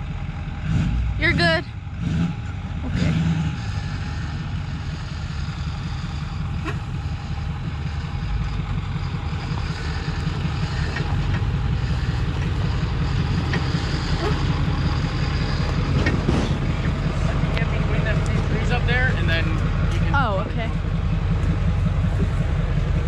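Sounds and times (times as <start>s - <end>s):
pickup truck engine rumbling: 0.0s - 23.0s.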